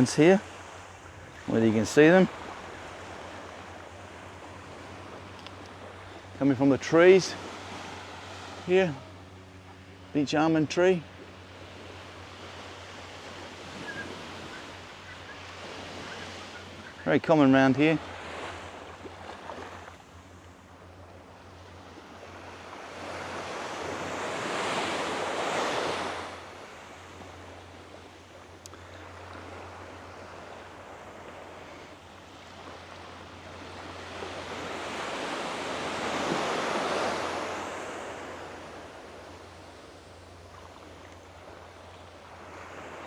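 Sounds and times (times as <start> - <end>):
waves washing on a beach: 0.0 - 43.0.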